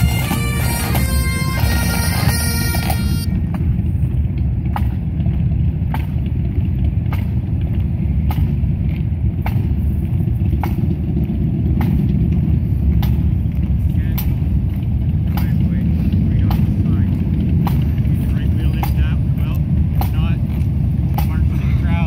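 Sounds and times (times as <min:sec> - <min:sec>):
steady low rumble: 0:00.0 - 0:22.0
drum taps: 0:00.2 - 0:21.5.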